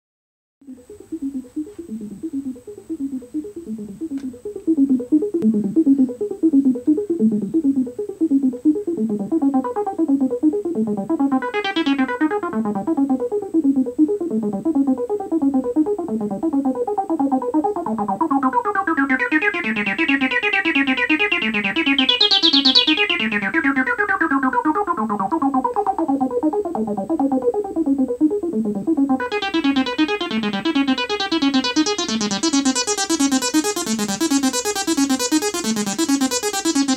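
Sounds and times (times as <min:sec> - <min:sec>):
synthesizer bass line: 0:00.7 - 0:36.9.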